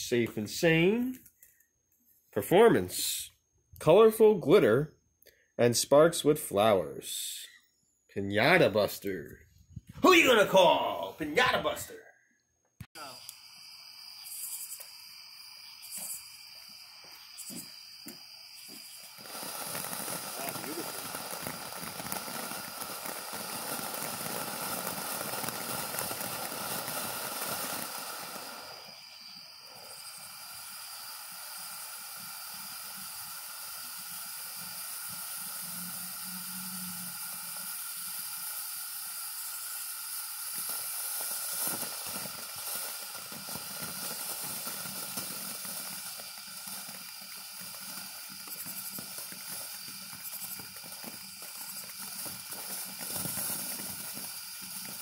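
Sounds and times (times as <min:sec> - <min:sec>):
firework fountain hissing: 0:09.8 - 0:12.0, 0:12.9 - 0:55.0.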